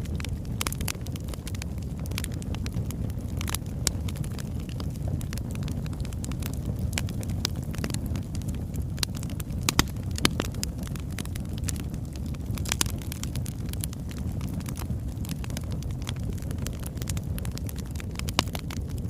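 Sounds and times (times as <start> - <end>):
logs crackling and popping: 0.0 - 19.0
low rush of flame: 0.0 - 19.0.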